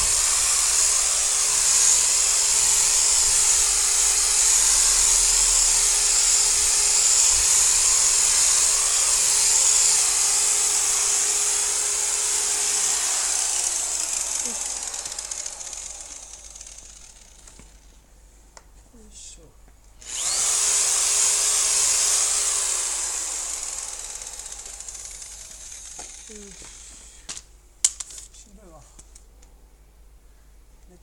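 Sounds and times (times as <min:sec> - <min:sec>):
electric polisher running: 0:00.0 - 0:17.8, 0:20.0 - 0:27.1.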